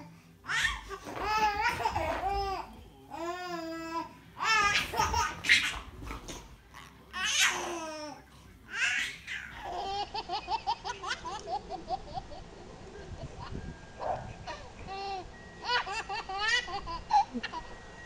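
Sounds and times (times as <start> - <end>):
baby laughing and giggling: 0.5 - 13.7, 14.4 - 17.8.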